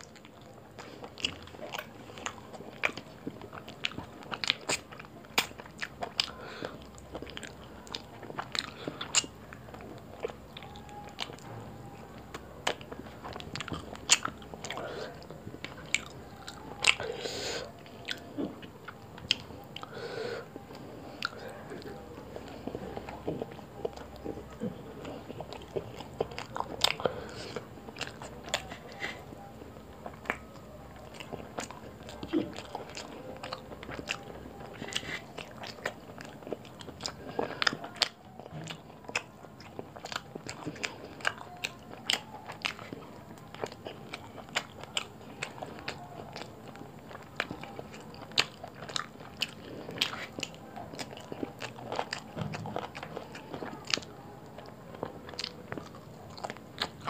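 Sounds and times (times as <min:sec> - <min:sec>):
wet chewing mouth sounds: 0:00.0 - 0:57.0.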